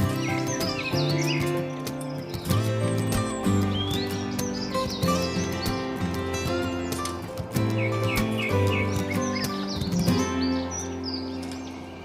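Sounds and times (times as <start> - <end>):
background music with sustained tones: 0.0 - 12.0
high bird chirps: 0.0 - 12.0.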